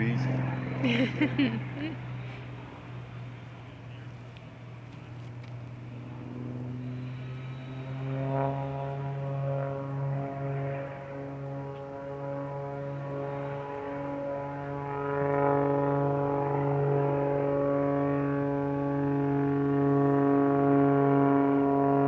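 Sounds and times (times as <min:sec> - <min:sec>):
propeller airplane droning: 0:00.0 - 0:22.0.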